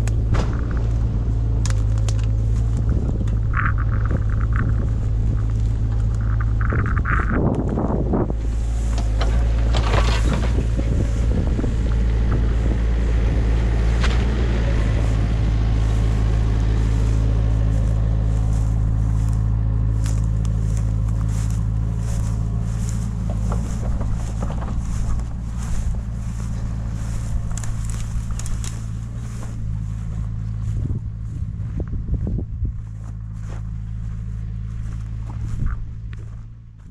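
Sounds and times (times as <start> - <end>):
grass rustling against microphone: 0.0 - 36.9
heavy machine engine humming: 0.0 - 36.9.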